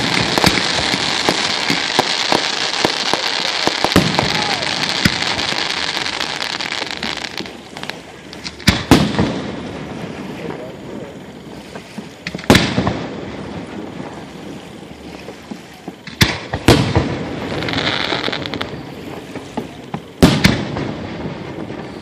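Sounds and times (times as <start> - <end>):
fireworks bangs: 0.0 - 22.0
fireworks hissing crackle: 0.0 - 22.0.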